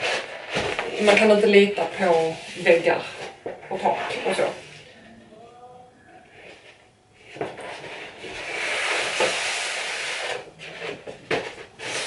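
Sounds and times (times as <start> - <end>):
wallpaper rustling and crackling: 0.0 - 4.9, 6.3 - 12.0.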